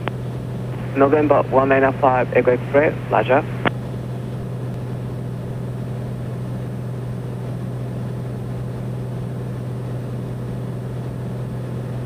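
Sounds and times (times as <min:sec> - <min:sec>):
turboprop engine and propeller drone: 0:00.0 - 0:12.0.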